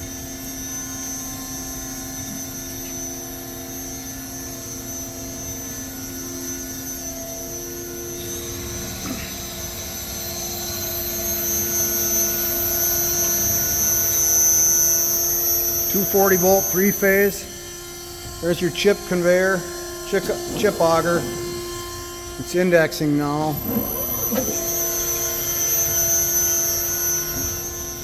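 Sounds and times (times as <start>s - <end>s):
bandsaw running with high whine: 0.0s - 28.0s.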